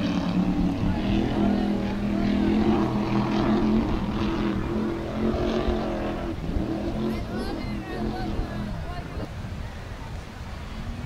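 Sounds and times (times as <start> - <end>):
powerboat engines at full speed: 0.0 - 11.0.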